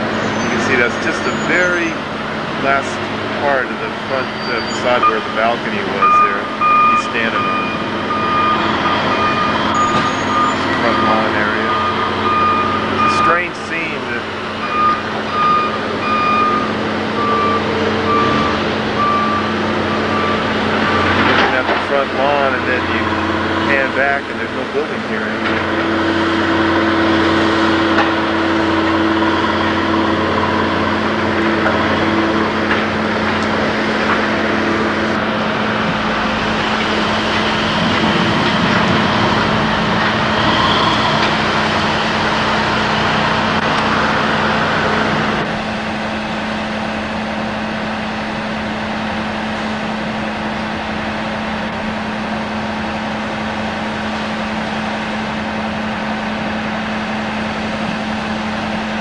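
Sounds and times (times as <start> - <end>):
constant hum: 0.0 - 59.0
engine-like mechanical noise: 0.0 - 59.0.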